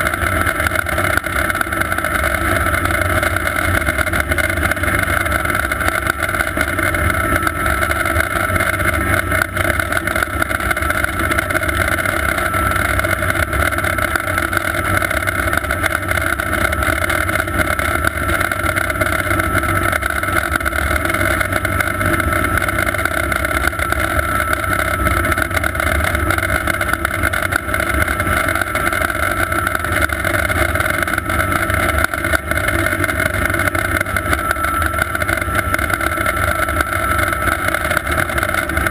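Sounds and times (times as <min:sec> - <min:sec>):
helicopter turbine whine: 0:00.0 - 0:38.9.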